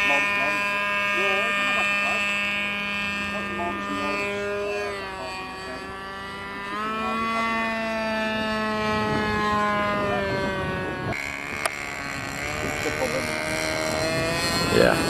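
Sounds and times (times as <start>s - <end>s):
model aircraft engine droning: 0.0s - 15.0s.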